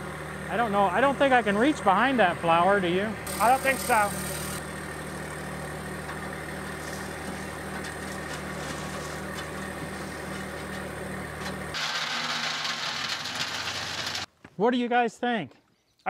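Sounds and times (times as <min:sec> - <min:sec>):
tractor diesel engine running: 0:00.0 - 0:14.3.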